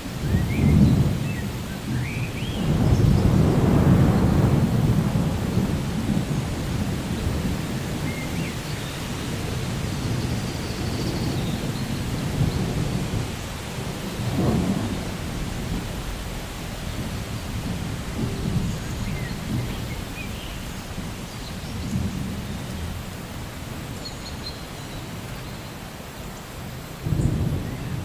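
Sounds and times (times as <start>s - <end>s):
steady rain: 0.0s - 28.0s
low rolling thunder: 0.2s - 24.0s, 26.9s - 28.0s.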